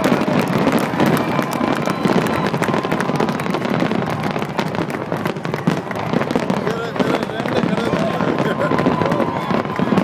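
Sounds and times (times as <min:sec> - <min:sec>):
fireworks cracks and bangs: 0:00.0 - 0:10.0.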